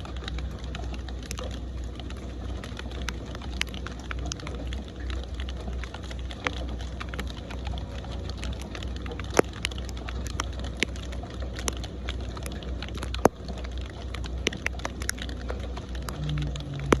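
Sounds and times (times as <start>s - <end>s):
rain drops hitting a surface: 0.0s - 17.0s
steady low rain rumble: 0.0s - 17.0s.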